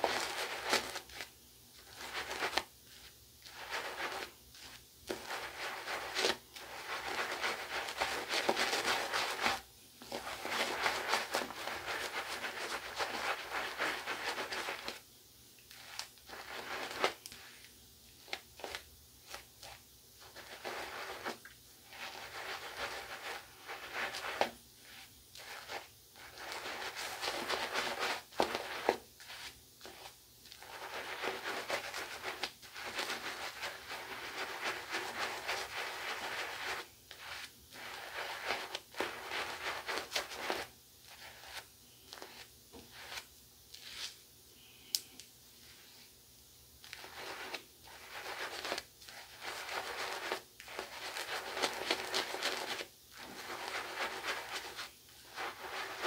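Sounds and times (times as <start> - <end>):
shaving brush scratching on stubble: 0.0 - 15.0, 15.7 - 17.5, 18.2 - 44.2, 46.8 - 56.0.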